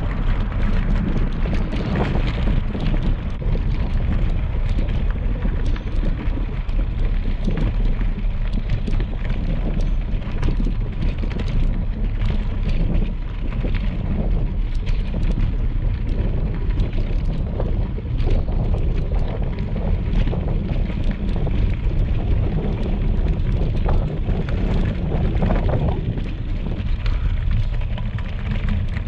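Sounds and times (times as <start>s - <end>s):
bicycle tyres on gravel: 0.0s - 29.0s
bike clicks and rattles: 0.0s - 29.0s
wind buffeting microphone: 0.0s - 29.0s.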